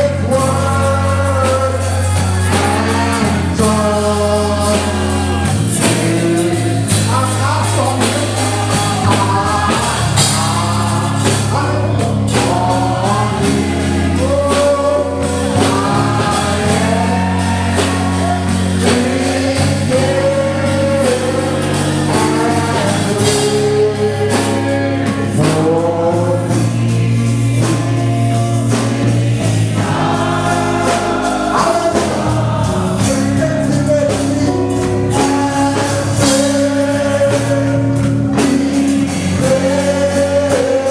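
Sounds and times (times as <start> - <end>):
band playing: 0.0 - 40.9
sustained bass notes: 0.0 - 40.9
voices singing together: 0.0 - 40.9.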